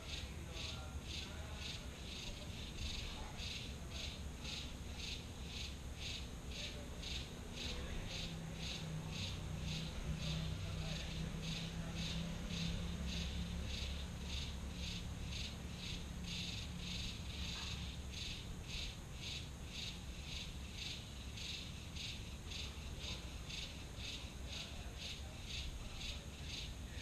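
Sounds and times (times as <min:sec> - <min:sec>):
insect chirping: 0:00.0 - 0:27.0.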